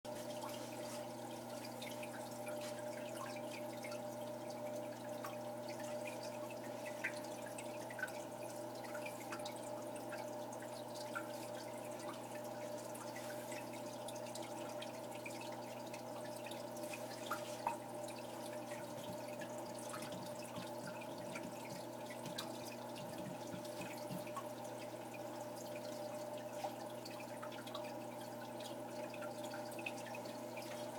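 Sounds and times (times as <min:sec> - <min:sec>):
small splashes and bubbles: 0:00.1 - 0:30.9
water dripping and trickling: 0:00.1 - 0:30.9.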